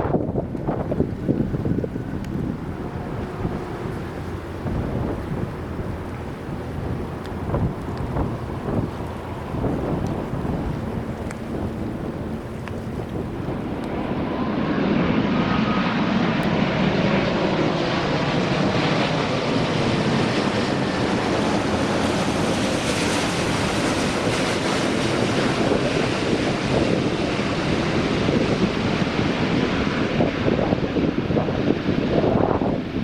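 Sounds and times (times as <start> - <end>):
jet engine noise: 0.0 - 33.0
wind buffeting microphone: 0.0 - 33.0.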